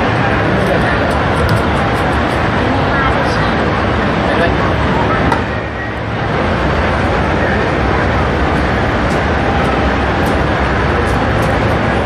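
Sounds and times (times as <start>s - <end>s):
crowd voices hubbub: 0.0s - 12.0s.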